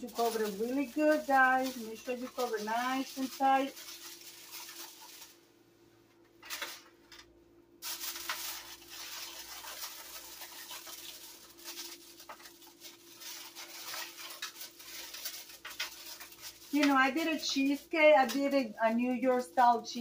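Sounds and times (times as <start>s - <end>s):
aluminium foil crinkling: 0.0s - 5.5s, 6.4s - 20.0s.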